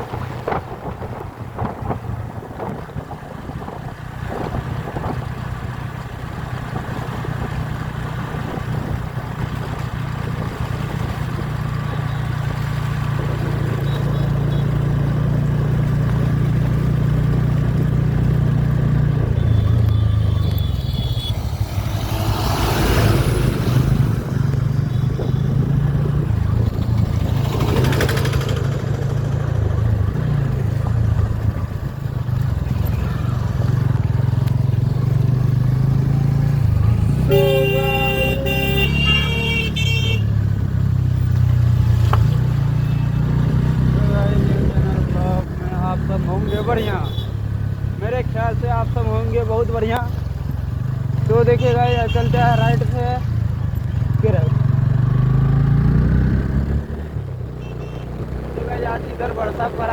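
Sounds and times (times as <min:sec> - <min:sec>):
motorcycle engine running: 0:02.7 - 0:59.9.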